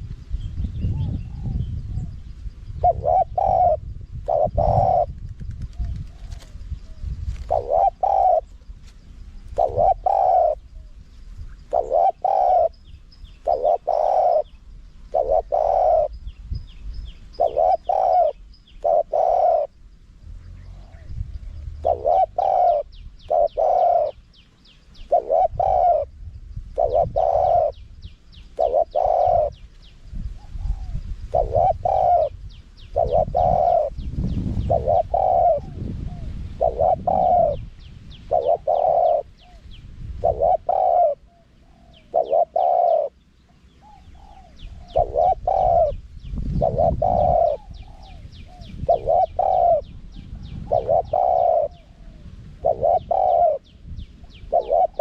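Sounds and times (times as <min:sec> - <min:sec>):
small birds chirping: 0:00.0 - 0:55.0
dove cooing: 0:00.8 - 0:16.7, 0:17.3 - 0:55.0.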